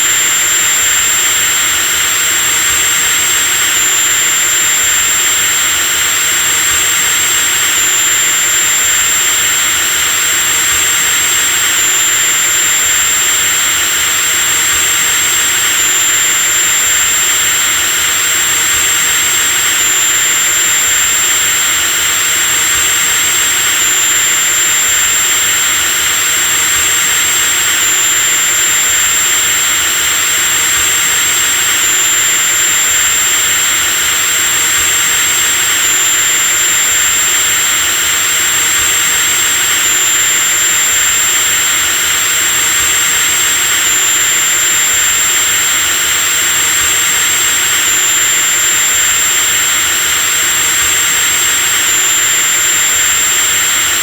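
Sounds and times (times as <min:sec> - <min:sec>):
electric drill whining: 0:00.0 - 0:54.0.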